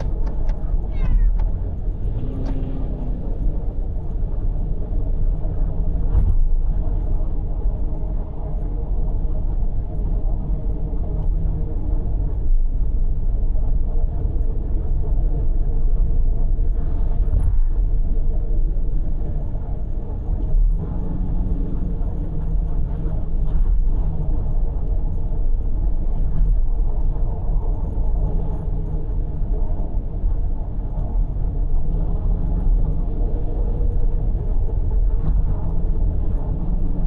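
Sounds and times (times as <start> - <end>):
car tyres and engine rumble: 0.0 - 37.0.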